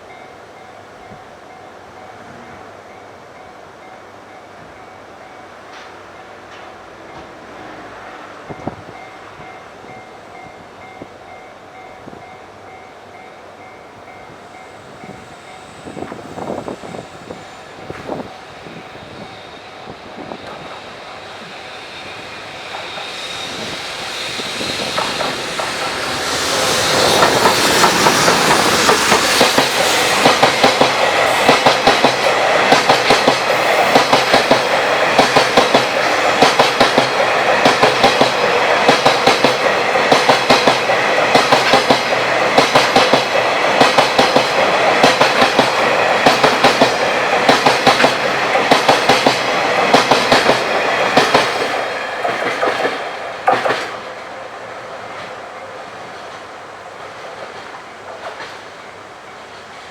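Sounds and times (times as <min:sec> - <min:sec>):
train passing: 0:00.0 - 0:59.9.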